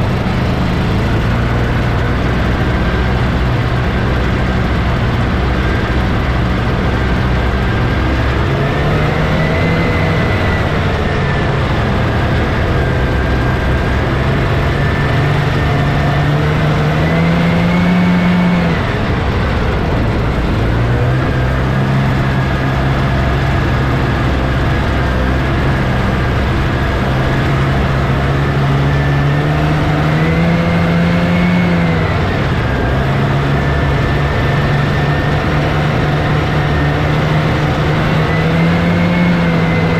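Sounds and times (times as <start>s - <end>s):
snowmobile two-stroke engine: 0.0s - 39.9s.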